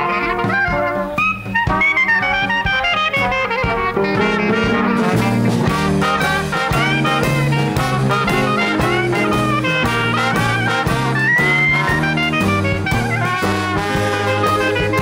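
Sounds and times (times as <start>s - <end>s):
jazz band playing blues: 0.0s - 15.0s
trombone melody: 0.0s - 15.0s.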